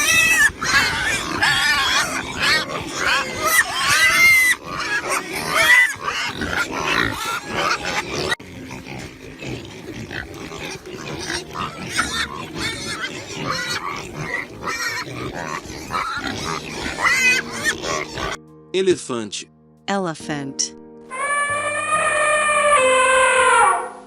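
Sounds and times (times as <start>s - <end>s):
pigs grunting and squealing: 0.0s - 18.4s, 21.1s - 24.0s.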